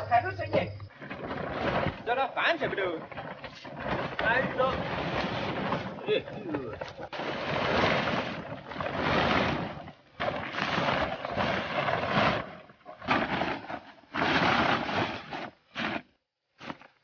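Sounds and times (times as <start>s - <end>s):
plastic tarpaulin rustling: 0.0s - 17.0s.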